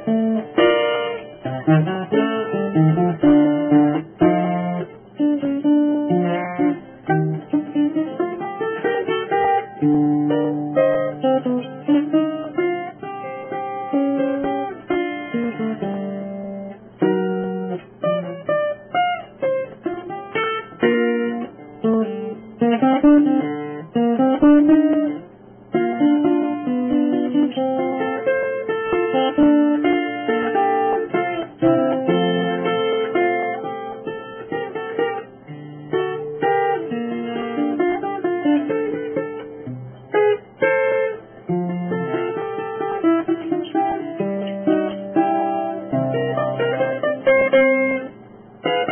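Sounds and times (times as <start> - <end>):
plucked guitar music: 0.0 - 48.9.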